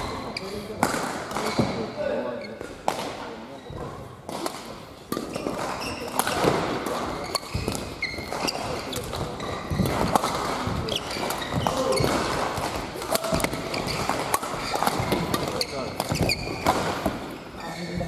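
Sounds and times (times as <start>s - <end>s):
shoes squeaking on floor: 0.0s - 0.8s, 1.4s - 2.8s, 3.5s - 4.1s, 5.2s - 18.0s
rackets hitting shuttlecock: 0.4s - 1.9s, 2.6s - 17.5s.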